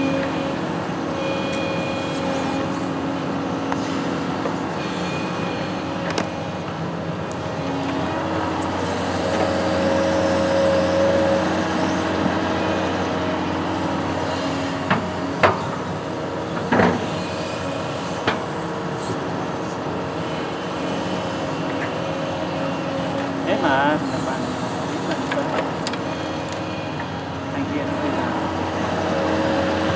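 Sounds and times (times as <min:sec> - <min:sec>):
construction machine engine running: 0:00.0 - 0:29.9.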